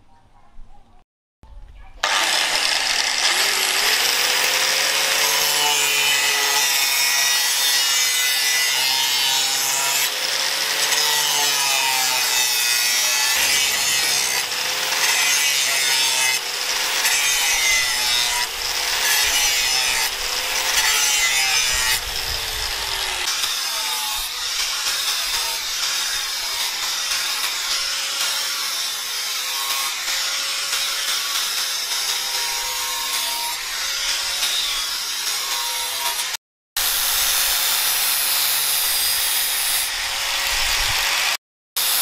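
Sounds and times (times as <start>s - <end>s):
angle grinder grinding steel: 2.0s - 42.0s.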